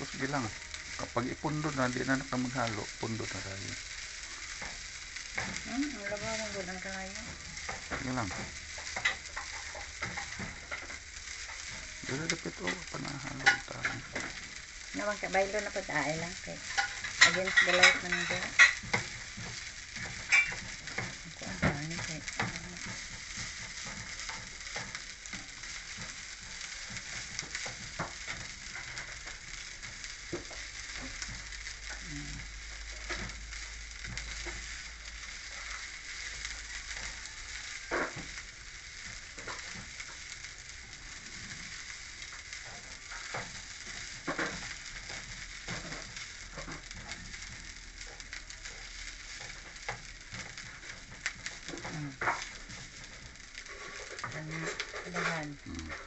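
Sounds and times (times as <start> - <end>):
rice sizzling in a frying pan: 0.0 - 56.0
spatula scraping a pan: 1.8 - 32.0, 32.6 - 56.0.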